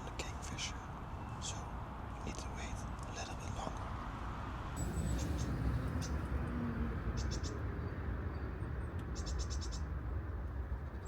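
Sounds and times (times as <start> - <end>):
low rushing background: 0.1 - 11.0.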